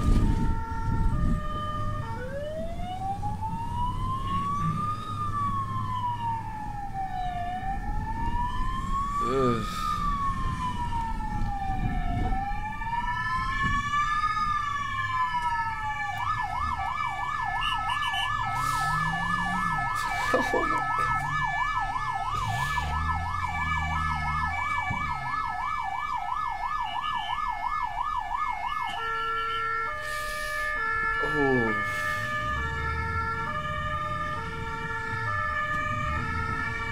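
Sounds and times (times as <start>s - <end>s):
emergency vehicle siren: 0.0s - 36.9s
engine and road rumble: 0.0s - 36.9s.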